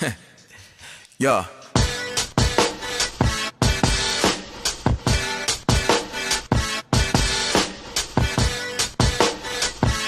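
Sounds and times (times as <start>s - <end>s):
electronic hip hop beat: 1.5s - 10.0s.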